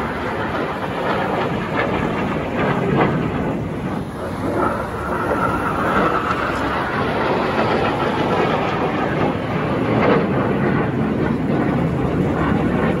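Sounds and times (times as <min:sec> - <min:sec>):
fighter jets flying overhead: 0:00.0 - 0:13.0.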